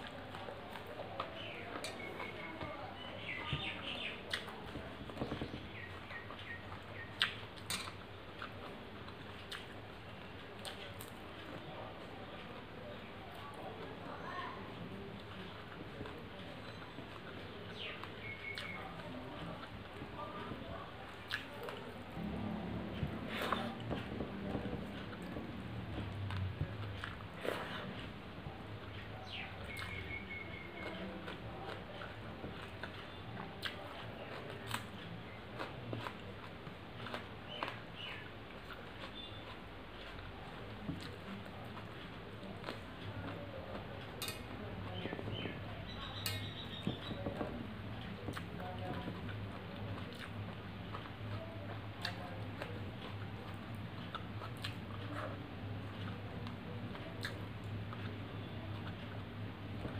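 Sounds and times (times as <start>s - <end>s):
chewing: 0.0s - 59.9s
fingers mixing food on metal plate: 0.0s - 59.9s
steady low hum: 0.0s - 59.9s.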